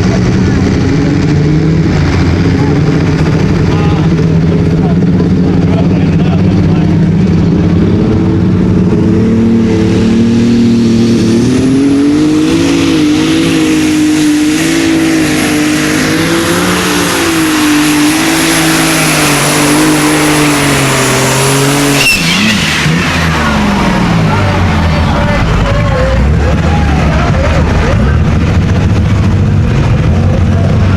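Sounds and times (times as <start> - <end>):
high turbo whine: 0.0 - 30.9
tractor engine running hard: 0.0 - 30.9.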